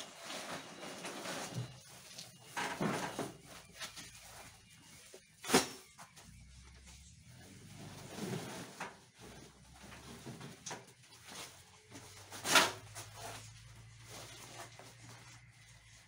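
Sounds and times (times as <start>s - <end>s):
sacks rustling and scraping: 0.0s - 16.0s.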